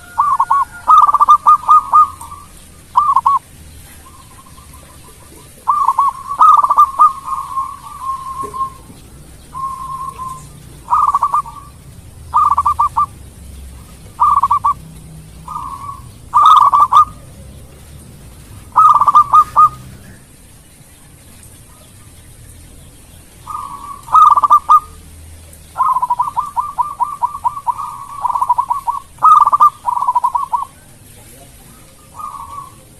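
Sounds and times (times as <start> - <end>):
dove cooing: 0.0 - 20.4, 23.4 - 25.0, 25.7 - 32.9.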